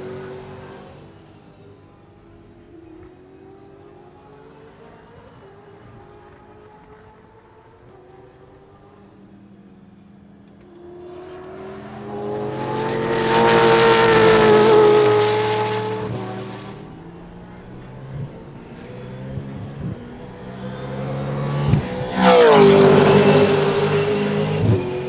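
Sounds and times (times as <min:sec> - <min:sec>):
race cars passing at speed: 0:00.0 - 0:25.0.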